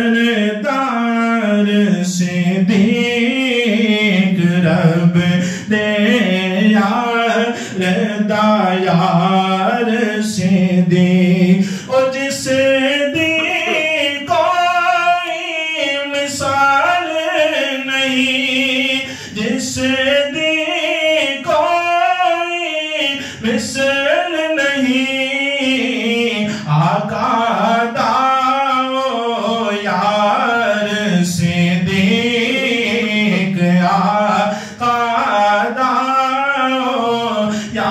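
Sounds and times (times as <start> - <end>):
man singing unaccompanied: 0.0 - 37.9.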